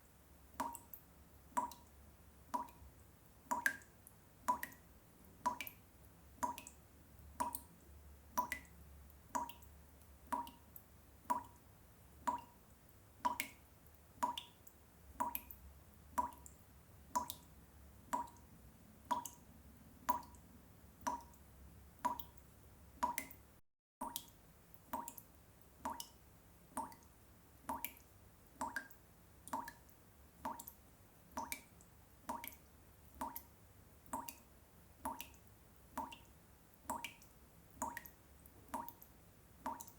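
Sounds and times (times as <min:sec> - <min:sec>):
water drops dripping: 0:00.5 - 0:39.9.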